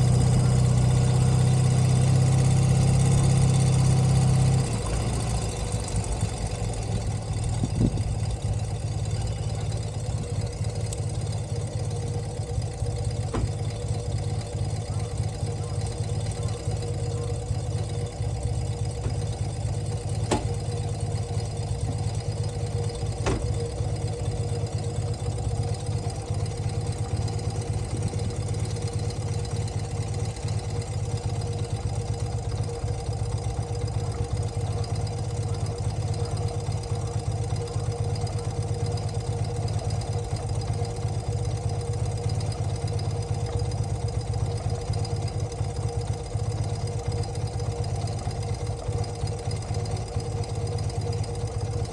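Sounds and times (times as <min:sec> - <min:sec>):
motorcycle engine idling: 0:00.0 - 0:51.9.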